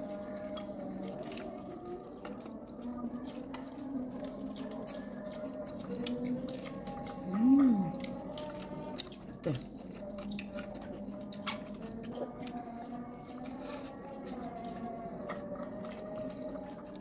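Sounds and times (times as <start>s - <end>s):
wet chewing and mouth clicks: 0.0s - 17.0s.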